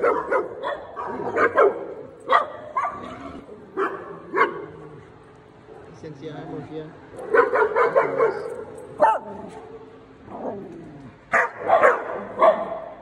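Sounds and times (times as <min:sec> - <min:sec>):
small dogs barking and yipping: 0:00.0 - 0:06.0, 0:07.1 - 0:13.0.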